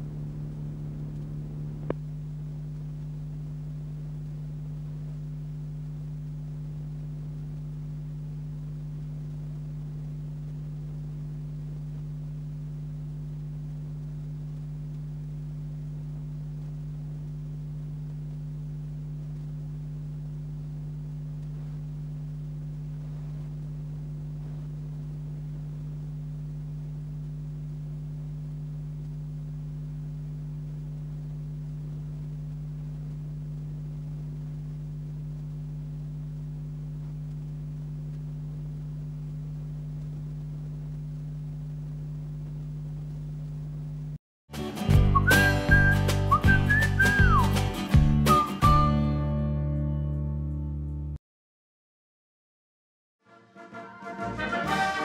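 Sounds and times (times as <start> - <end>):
steady low hum: 0.0 - 44.2.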